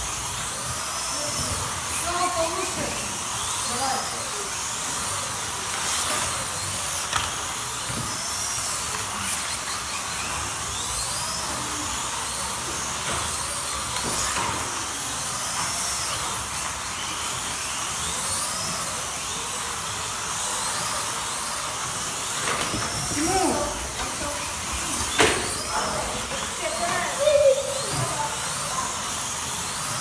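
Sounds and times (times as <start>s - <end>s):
slot car motors whining: 0.0s - 30.0s.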